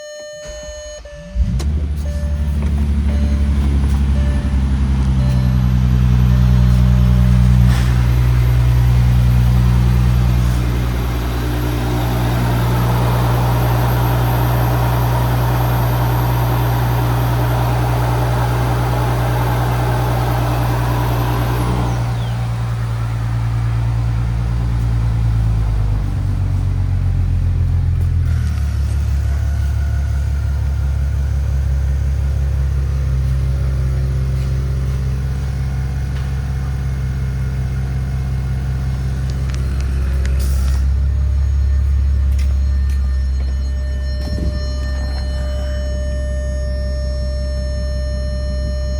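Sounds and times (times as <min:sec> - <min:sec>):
car engine idling: 0:01.0 - 0:48.4.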